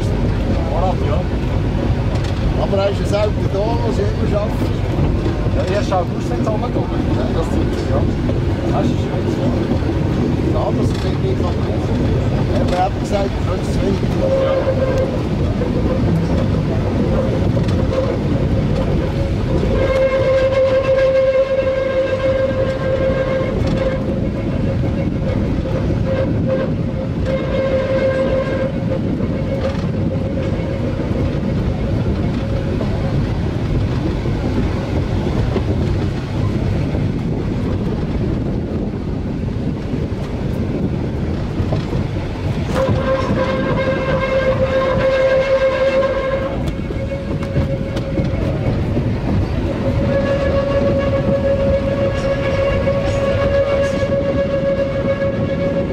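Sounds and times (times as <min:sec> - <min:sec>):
train rumbling on track: 0:00.0 - 0:55.9.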